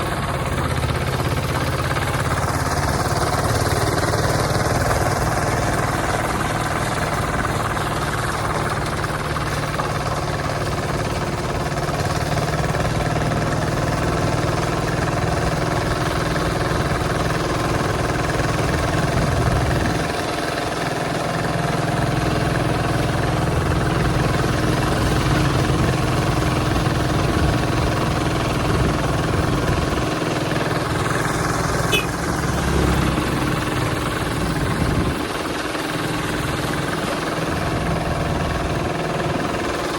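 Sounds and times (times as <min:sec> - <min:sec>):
tractor engine rumbling: 0:00.0 - 0:39.9.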